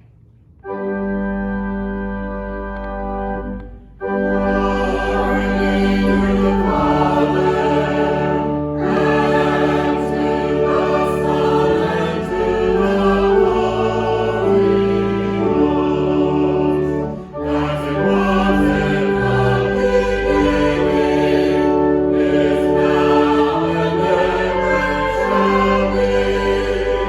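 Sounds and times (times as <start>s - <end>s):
organ: 0.5s - 27.0s
choir singing: 4.1s - 27.0s.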